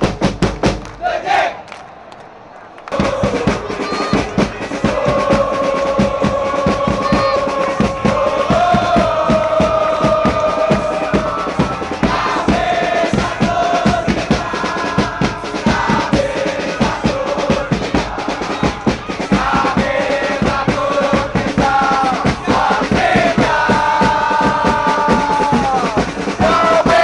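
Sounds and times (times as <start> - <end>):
drum beats: 0.0 - 1.5, 2.9 - 27.0
crowd chanting in unison: 0.9 - 27.0.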